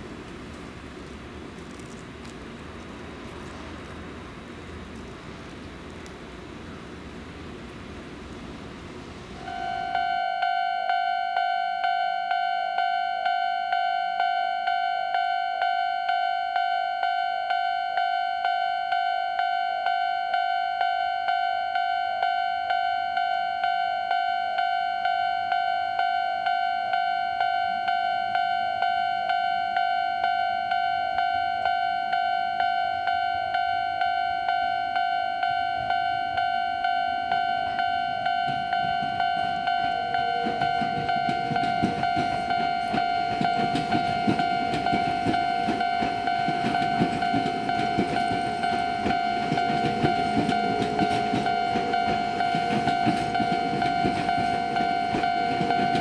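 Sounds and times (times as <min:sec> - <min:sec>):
level crossing warning bell: 0:09.4 - 0:56.0.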